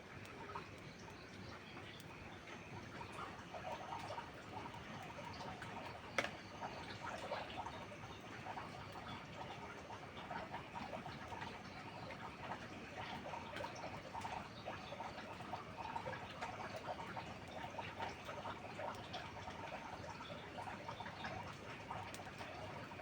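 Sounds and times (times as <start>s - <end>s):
rain pattering on roof: 0.0s - 23.0s.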